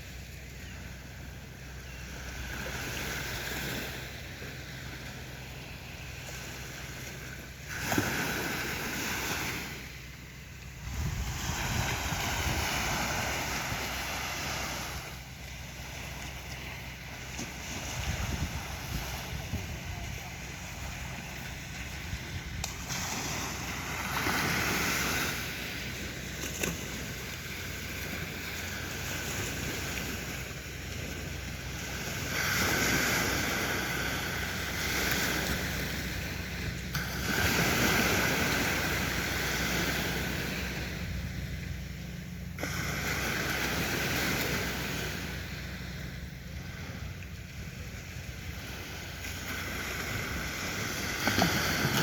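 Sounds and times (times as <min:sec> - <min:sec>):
sea waves washing onto beach: 0:00.0 - 0:52.0
steady low rumble: 0:00.0 - 0:52.0.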